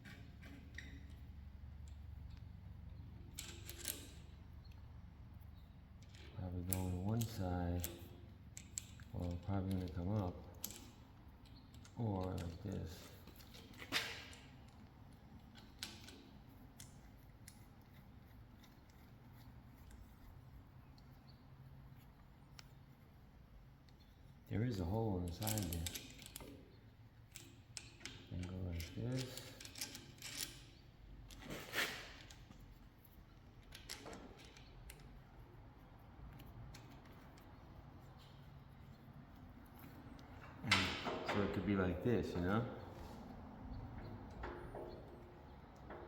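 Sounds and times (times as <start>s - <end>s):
parts clicking and rustling: 0.0s - 46.0s.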